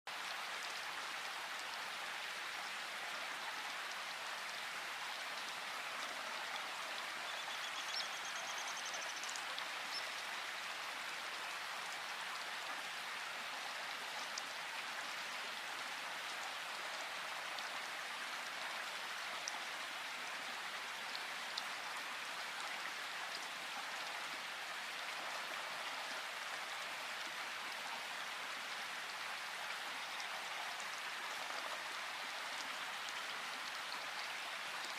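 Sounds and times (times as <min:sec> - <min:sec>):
rain falling in forest: 0:00.1 - 0:34.9.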